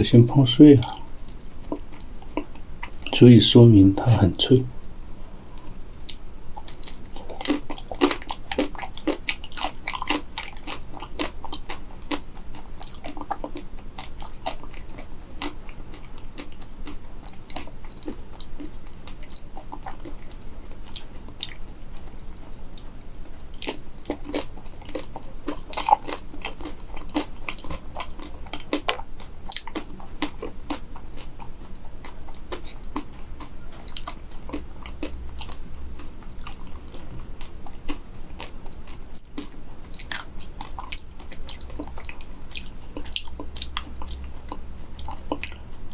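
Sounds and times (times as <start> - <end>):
crunching and chewing: 0.6 - 3.3, 5.5 - 45.9.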